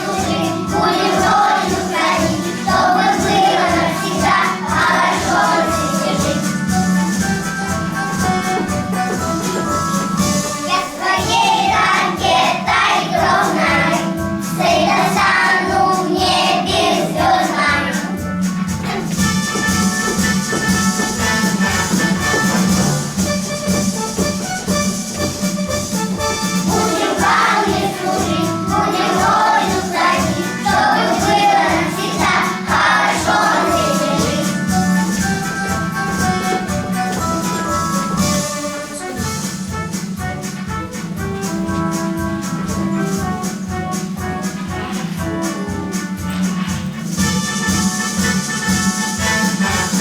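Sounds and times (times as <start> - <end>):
children singing together: 0.0 - 23.1, 26.1 - 39.5, 41.5 - 47.0
backing track with steady beat: 0.0 - 50.0.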